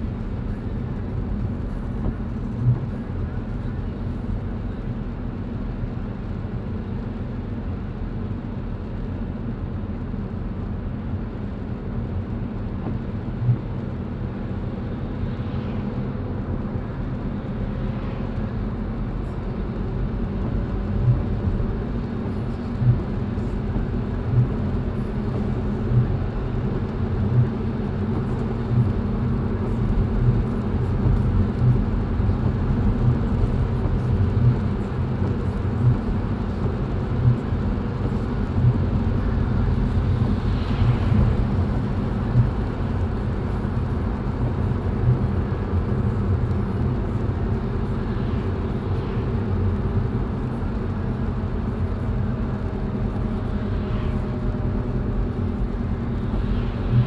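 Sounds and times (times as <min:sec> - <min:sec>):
car tyres rumbling on wet road: 0:00.0 - 0:57.0
rain: 0:00.0 - 0:57.0.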